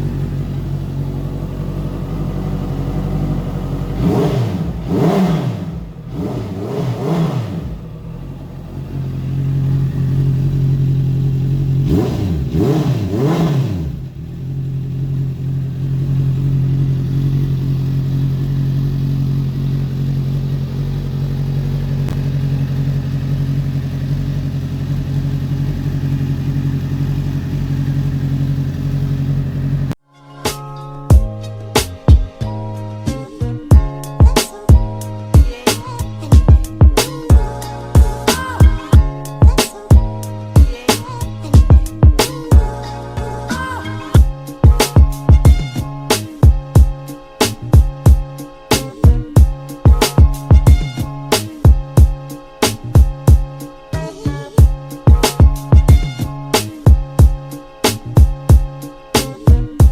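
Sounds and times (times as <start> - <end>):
motorcycle engine idling and revving: 0.0 - 30.0, 31.1 - 59.9.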